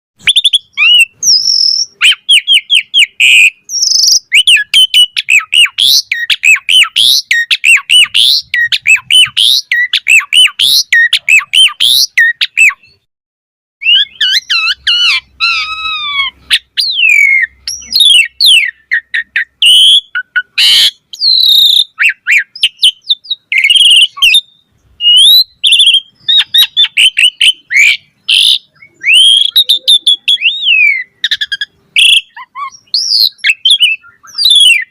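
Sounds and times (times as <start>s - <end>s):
starling singing: 0.2s - 13.1s, 13.8s - 34.9s.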